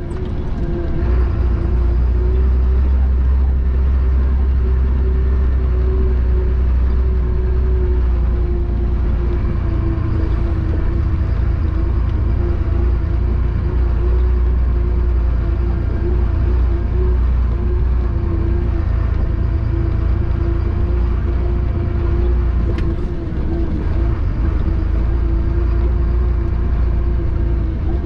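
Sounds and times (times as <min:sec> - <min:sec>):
constant hum: 0:00.0 - 0:28.0
truck engine rumble: 0:00.0 - 0:28.0.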